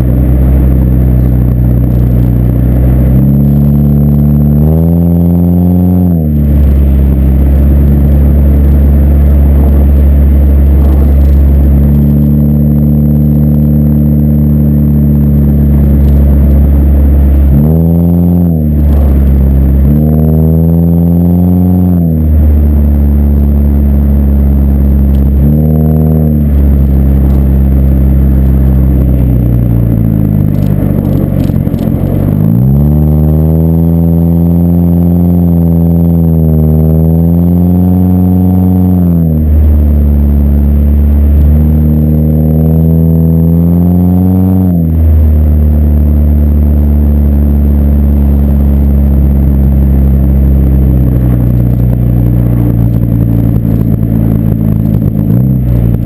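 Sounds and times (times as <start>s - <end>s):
car exhaust drone while driving: 0.0s - 56.0s
engine revs climbing: 0.0s - 56.0s.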